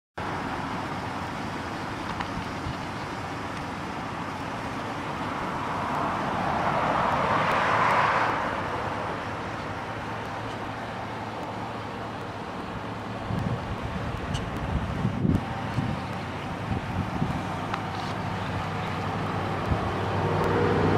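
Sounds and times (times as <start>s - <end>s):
vehicle passing on road: 0.2s - 20.9s.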